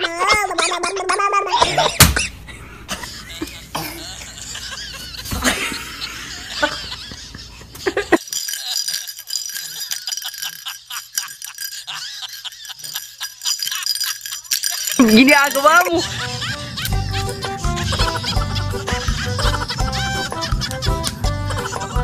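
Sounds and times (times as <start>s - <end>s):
person laughing: 0.0s - 9.1s, 9.7s - 22.0s.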